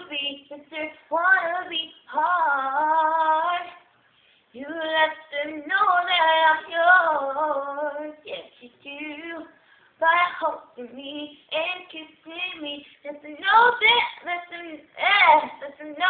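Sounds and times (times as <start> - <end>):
woman singing unaccompanied: 0.0 - 3.9, 4.5 - 16.0.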